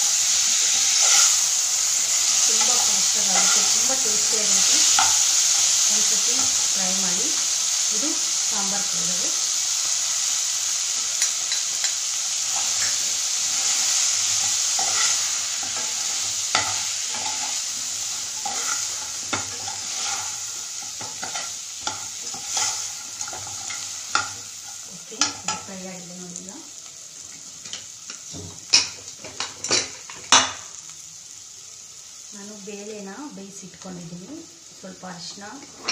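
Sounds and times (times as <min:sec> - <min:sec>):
food frying in oil: 0:00.0 - 0:35.9.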